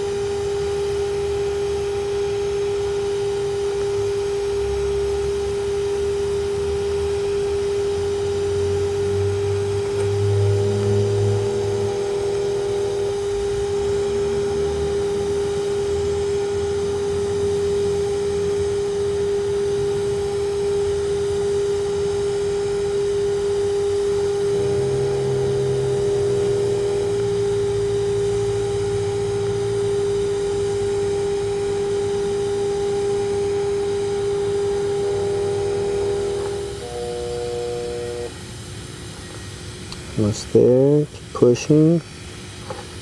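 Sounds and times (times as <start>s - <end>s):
welding arc humming: 0.0s - 42.0s.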